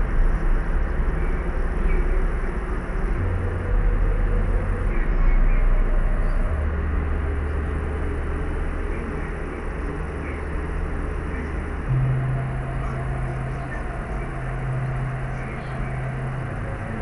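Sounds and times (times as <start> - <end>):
low hum shifting pitch: 0.0 - 17.0.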